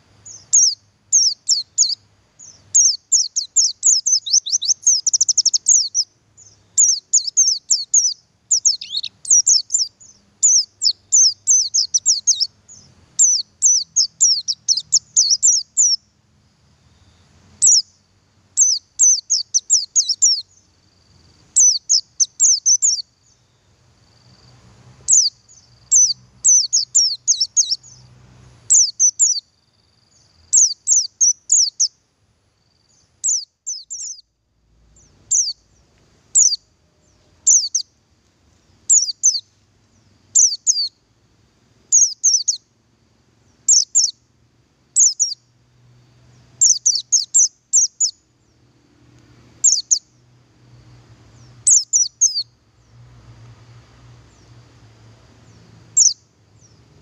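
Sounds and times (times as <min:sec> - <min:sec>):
bird chirping: 0:00.2 - 0:16.1, 0:16.8 - 0:32.0, 0:32.6 - 0:34.3, 0:34.9 - 0:38.0, 0:38.9 - 0:41.0, 0:41.9 - 0:42.7, 0:43.4 - 0:44.3, 0:45.0 - 0:45.5, 0:46.3 - 0:48.7, 0:49.6 - 0:50.3, 0:50.9 - 0:53.1, 0:54.2 - 0:54.6, 0:55.3 - 0:57.0.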